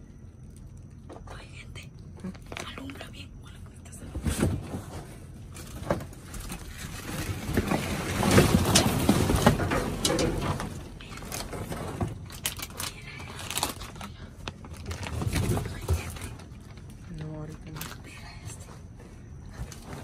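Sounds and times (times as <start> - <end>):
cardboard and plastic rustling: 2.2 - 3.1, 4.0 - 20.0.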